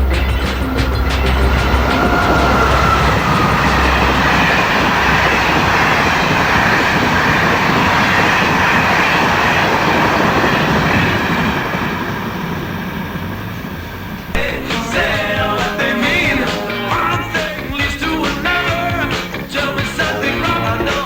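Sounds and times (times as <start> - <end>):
rushing train-like noise: 0.0 - 21.0.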